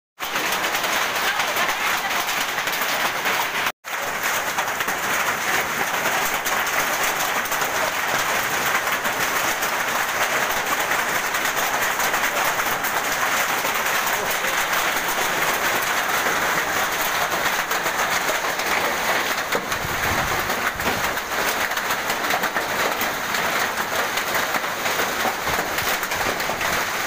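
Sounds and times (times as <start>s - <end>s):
hail pelting down: 0.2s - 27.0s.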